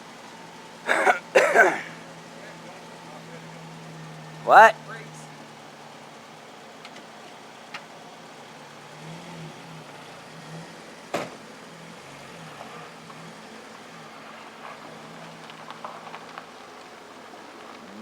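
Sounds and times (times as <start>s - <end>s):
car engine low hum: 1.8s - 18.0s.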